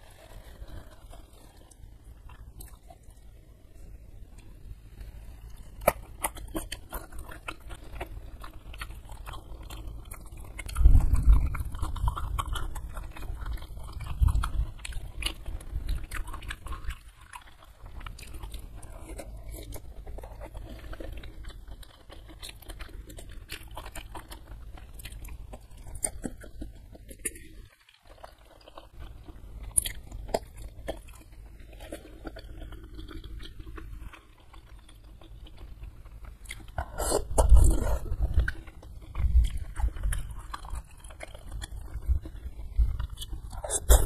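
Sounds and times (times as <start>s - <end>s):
chewing and wet mouth clicks: 0.0s - 44.0s.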